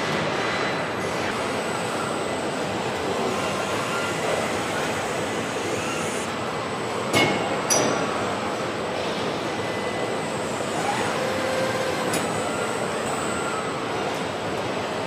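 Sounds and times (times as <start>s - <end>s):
machinery hum and hiss: 0.0s - 15.0s.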